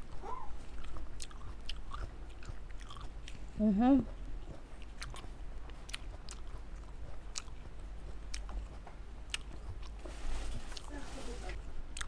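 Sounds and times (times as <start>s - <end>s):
chewing grapes: 0.0s - 12.0s.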